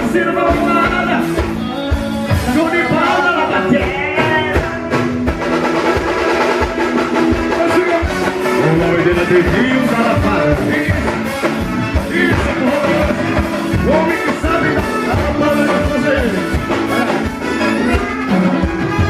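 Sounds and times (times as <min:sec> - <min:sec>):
live band playing dance music: 0:00.0 - 0:19.0.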